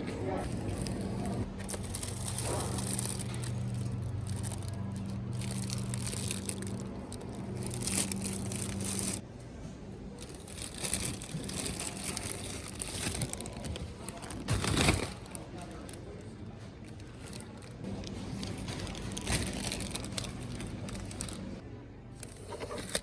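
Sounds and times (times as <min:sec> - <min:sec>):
crinkling and rustling handling: 0:00.0 - 0:21.6, 0:22.2 - 0:23.0.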